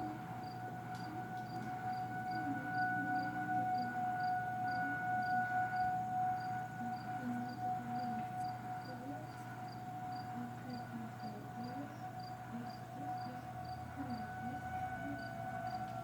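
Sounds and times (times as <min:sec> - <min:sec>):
cricket chirping: 0:00.0 - 0:16.0
distant warning siren steady tone: 0:00.0 - 0:16.0.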